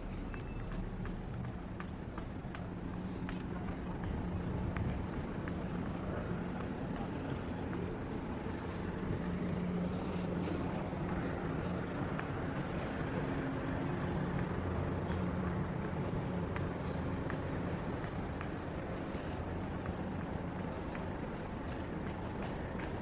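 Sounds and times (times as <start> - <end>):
street ambience: 0.0 - 23.0
vehicle engine humming: 0.0 - 23.0.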